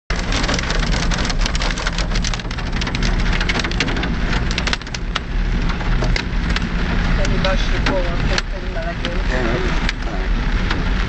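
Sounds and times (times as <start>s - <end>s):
crackle of clicks and rattles: 0.1s - 11.0s
low engine hum: 0.1s - 11.0s.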